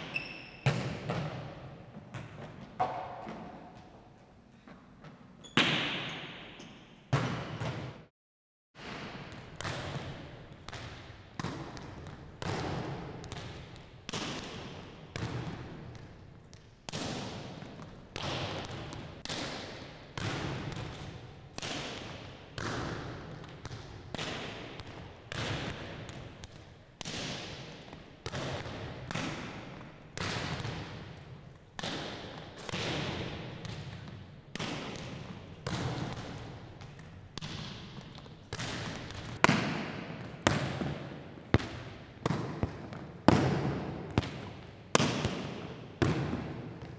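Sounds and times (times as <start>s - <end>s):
volleyballs smacking on gym floor: 0.0s - 4.0s, 4.7s - 8.0s, 8.8s - 46.9s.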